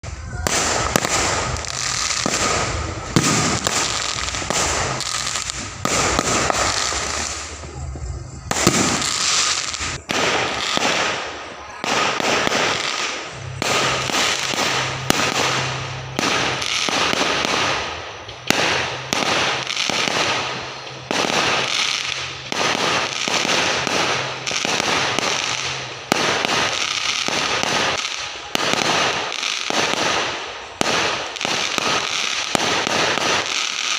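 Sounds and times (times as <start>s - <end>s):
fireworks bangs: 0.0s - 33.9s.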